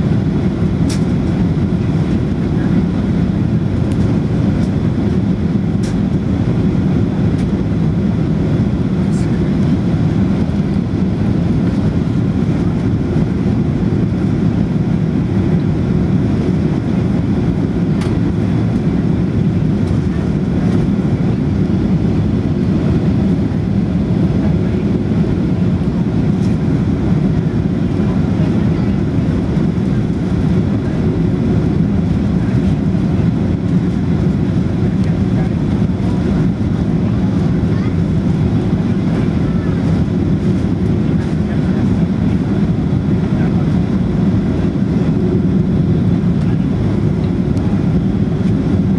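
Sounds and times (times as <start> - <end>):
airflow over fuselage: 0.0 - 48.9
jet engine rumble in cabin: 0.0 - 48.9.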